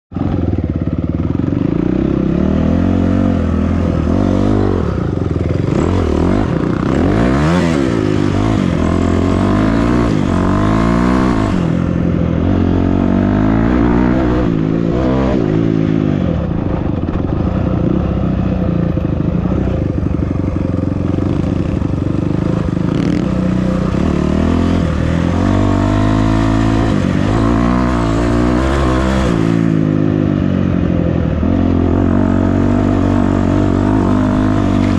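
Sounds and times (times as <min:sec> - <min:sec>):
off-road vehicle engine revving: 0:01.5 - 0:18.7, 0:19.4 - 0:34.9.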